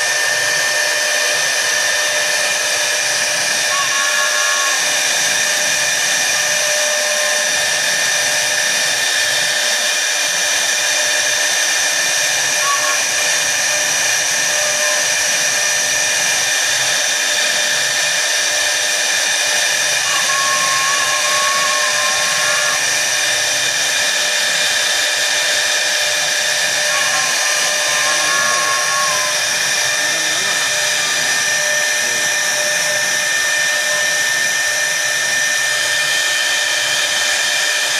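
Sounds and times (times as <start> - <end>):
spindle motor high whine: 0.0 - 37.9.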